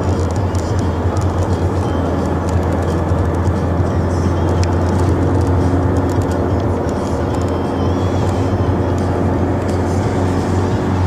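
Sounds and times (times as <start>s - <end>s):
engine hum: 0.0s - 11.0s
road noise: 0.0s - 11.0s.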